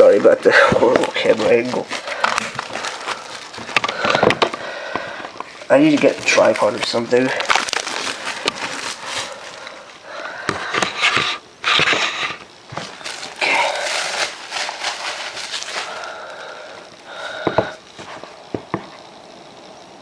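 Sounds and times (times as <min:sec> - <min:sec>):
packaging rustling and scraping: 0:00.0 - 0:19.0.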